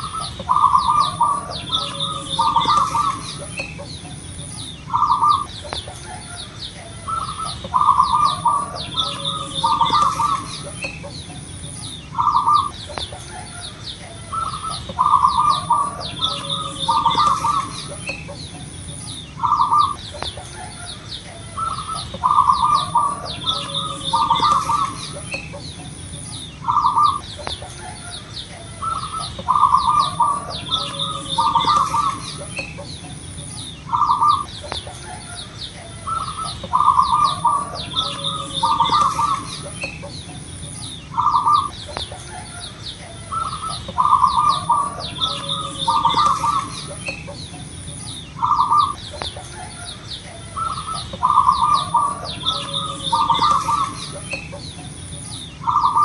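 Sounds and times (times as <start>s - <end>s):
dove cooing: 0.0s - 56.0s
high bird chirping: 0.0s - 56.0s.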